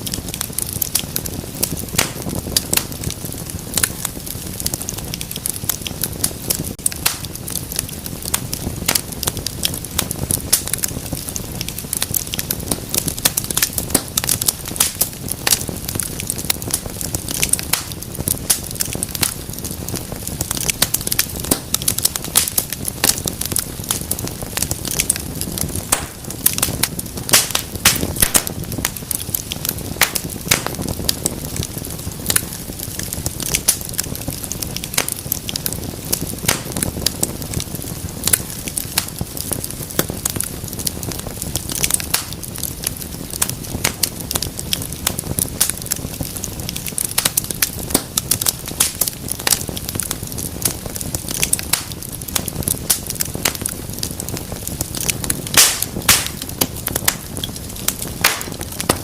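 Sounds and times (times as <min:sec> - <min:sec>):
low rush of flames: 0:00.0 - 0:59.0
wood fire crackling and popping: 0:00.0 - 0:59.0.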